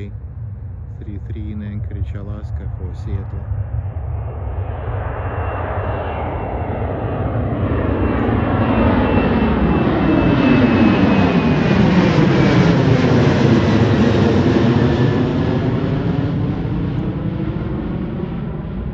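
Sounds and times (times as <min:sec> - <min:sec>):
jet engines roaring overhead: 0:00.0 - 0:18.9.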